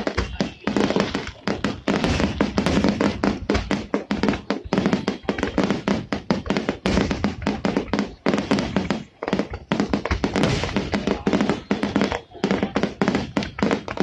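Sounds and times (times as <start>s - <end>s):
fireworks shells bursting: 0.0s - 14.0s.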